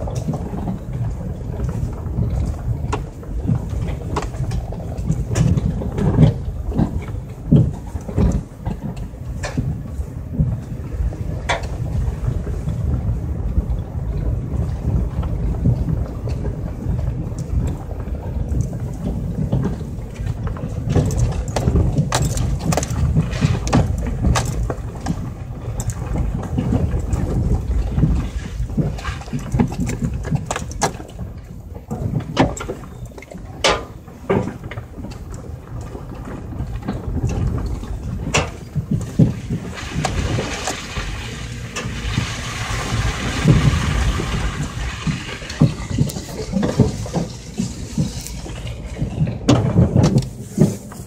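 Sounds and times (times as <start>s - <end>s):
knocks and rattles from bumps: 0.0s - 51.0s
truck engine and tyres rumbling: 0.0s - 51.0s.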